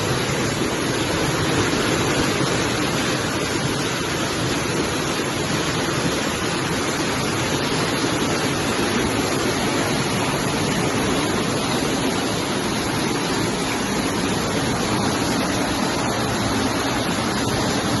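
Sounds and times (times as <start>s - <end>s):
rushing water from heavy rain: 0.0s - 18.0s.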